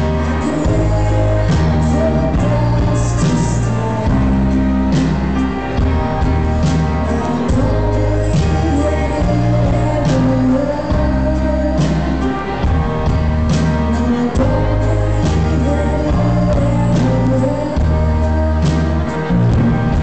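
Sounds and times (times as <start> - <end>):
heavy bass notes: 0.0 - 20.0
live rock band playing: 0.0 - 20.0.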